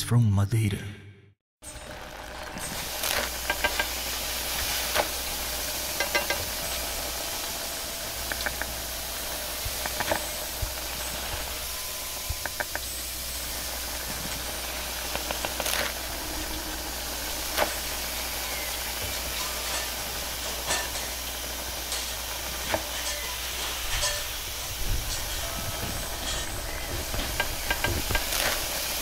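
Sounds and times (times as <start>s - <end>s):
gas burner hissing: 1.6s - 29.0s
hot oil sizzling in wok: 1.6s - 29.0s.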